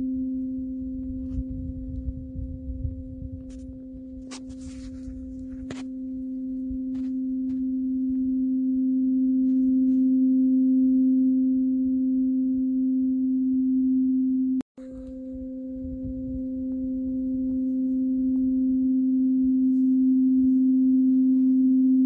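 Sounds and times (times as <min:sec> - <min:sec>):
tuning fork ringing: 0:00.0 - 0:22.0.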